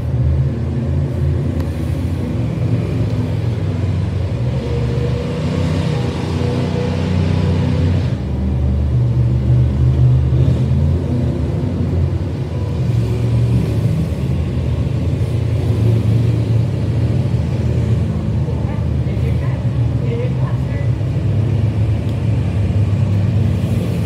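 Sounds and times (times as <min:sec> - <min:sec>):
monster truck engines racing: 0:00.0 - 0:24.0.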